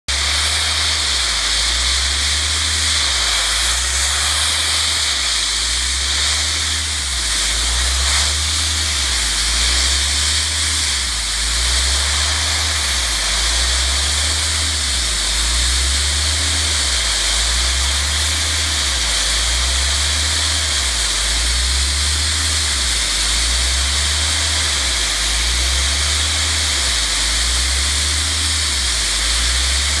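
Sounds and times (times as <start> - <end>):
blast nozzle spraying hiss: 0.1 - 30.0.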